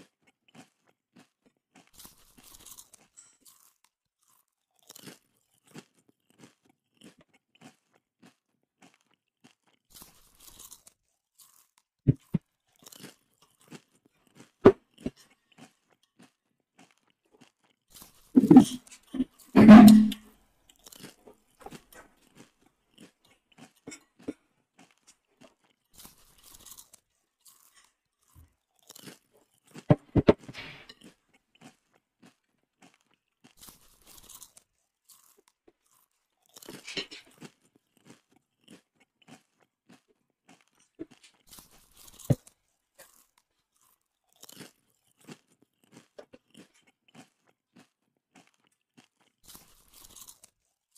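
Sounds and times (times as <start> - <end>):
chicken feet crunching: 0.0 - 20.2, 20.8 - 50.5.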